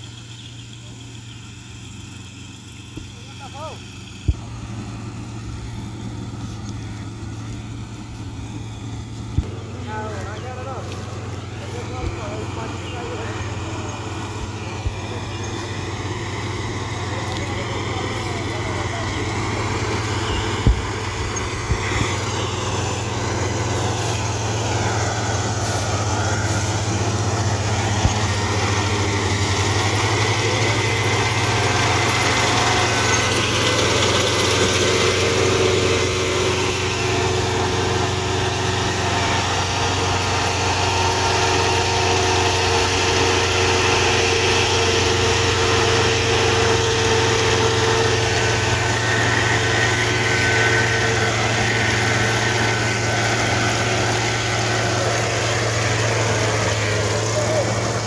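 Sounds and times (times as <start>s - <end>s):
combine harvester drone: 0.0s - 58.0s
high steady whining tones: 0.0s - 58.0s.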